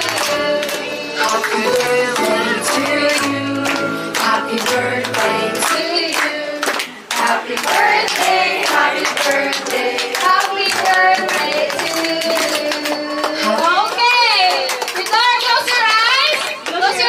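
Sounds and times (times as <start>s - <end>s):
song with singing: 0.0s - 13.7s
hands clapping along: 0.0s - 17.0s.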